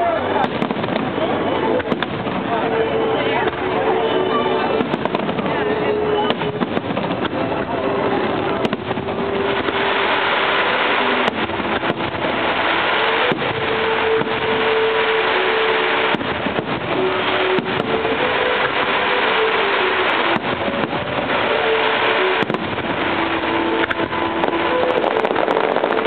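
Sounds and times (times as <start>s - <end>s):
fireworks bangs: 0.0s - 26.0s
fireworks crackling and rumbling: 0.0s - 26.0s.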